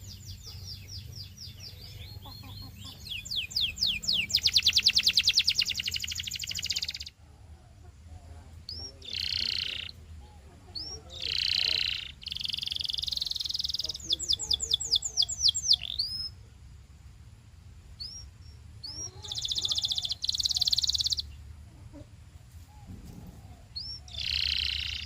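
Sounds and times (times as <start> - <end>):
canary singing: 0.0 - 7.2, 8.6 - 16.4, 18.0 - 21.5, 23.4 - 25.0.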